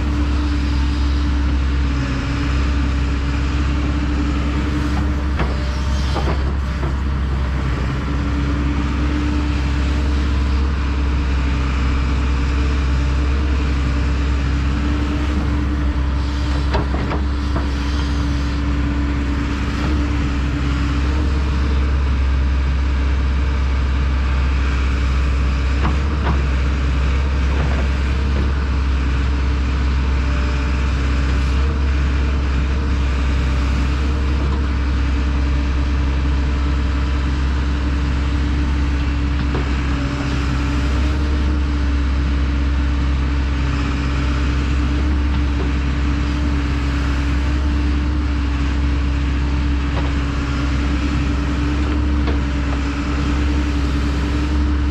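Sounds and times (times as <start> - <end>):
excavator diesel engine drone: 0.0 - 54.9.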